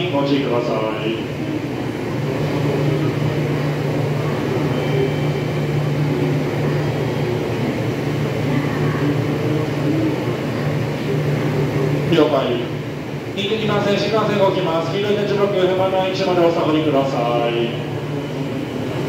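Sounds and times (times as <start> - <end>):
train low hum: 0.0 - 19.0.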